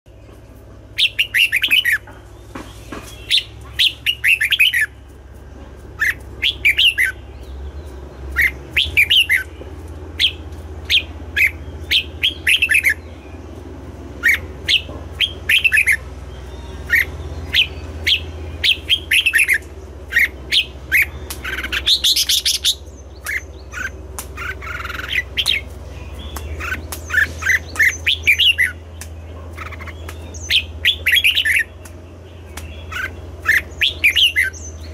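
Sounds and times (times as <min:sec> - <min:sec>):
bird singing whistled notes: 0:01.0 - 0:02.0, 0:02.8 - 0:05.0, 0:06.0 - 0:09.6, 0:10.2 - 0:13.6, 0:14.2 - 0:34.9.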